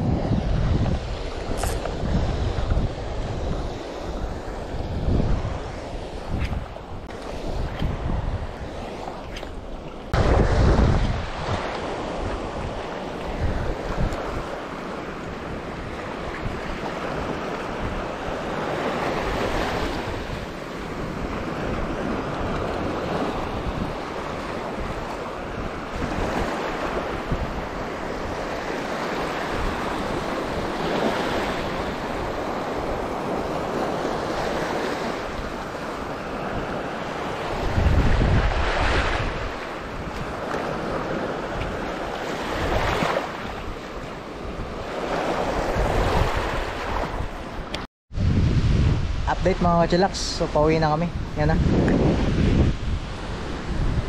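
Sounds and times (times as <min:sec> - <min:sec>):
sea waves: 0:00.0 - 0:54.0
strong wind buffeting microphone: 0:00.0 - 0:54.0.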